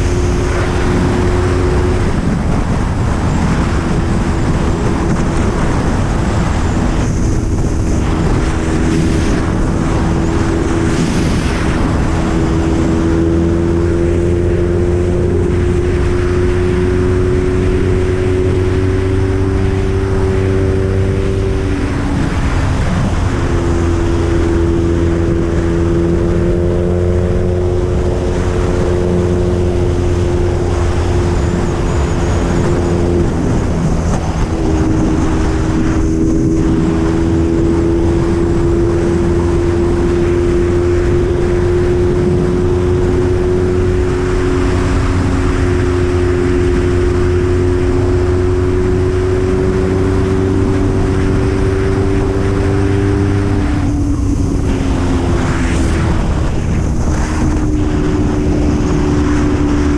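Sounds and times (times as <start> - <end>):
motorcycle engine cruising: 0.0 - 59.9
wind on microphone: 0.0 - 59.9.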